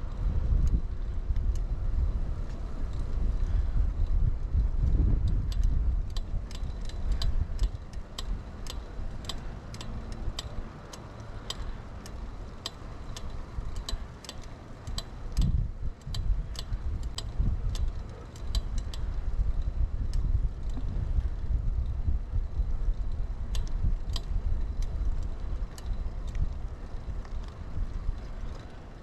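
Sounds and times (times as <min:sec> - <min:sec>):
wind on microphone: 0:00.0 - 0:10.7, 0:14.9 - 0:29.0
bicycle freewheel ticking: 0:00.0 - 0:29.0.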